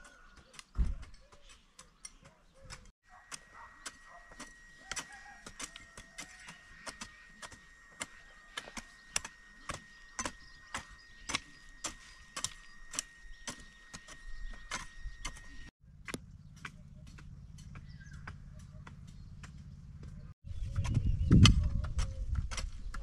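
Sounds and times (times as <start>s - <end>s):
hoes chopping into stony soil: 0.0s - 23.0s.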